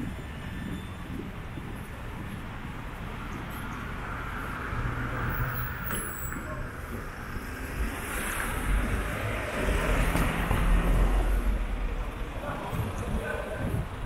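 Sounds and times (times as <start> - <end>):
vehicle traffic rumble: 0.0 - 14.0.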